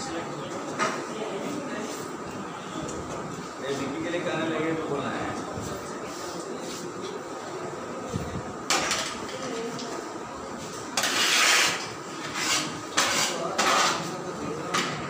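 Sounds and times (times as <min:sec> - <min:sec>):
chatter of people eating: 0:00.0 - 0:15.0.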